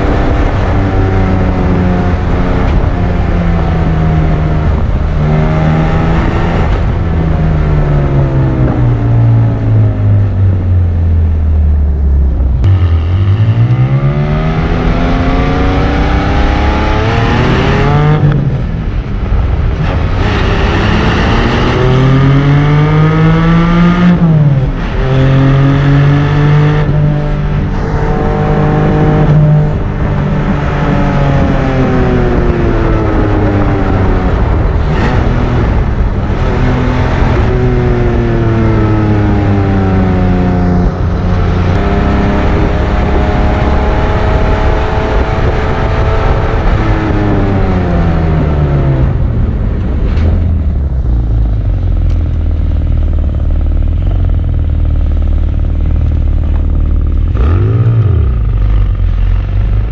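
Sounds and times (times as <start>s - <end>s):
sports car engine and exhaust: 0.0s - 59.9s.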